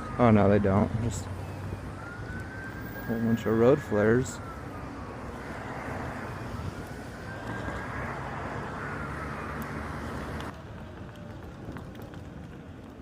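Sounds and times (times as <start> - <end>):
faint emergency vehicle siren: 0.0 - 13.0
road traffic noise: 0.0 - 13.0.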